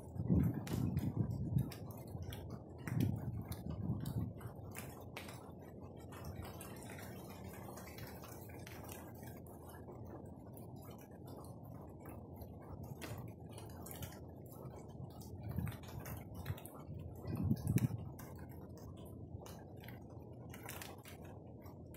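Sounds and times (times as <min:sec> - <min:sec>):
rainwater dripping on leaves: 0:00.0 - 0:21.9
steady rush of rain: 0:00.0 - 0:21.9.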